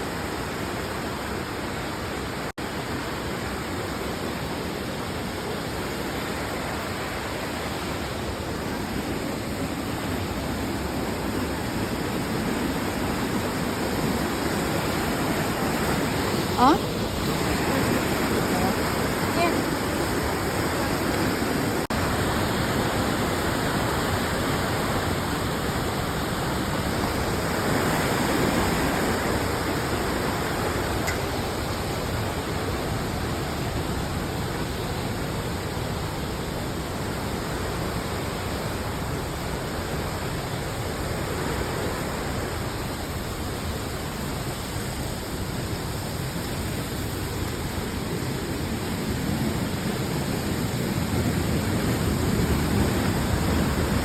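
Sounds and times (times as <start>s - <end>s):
rushing waterfall: 0.0s - 54.0s.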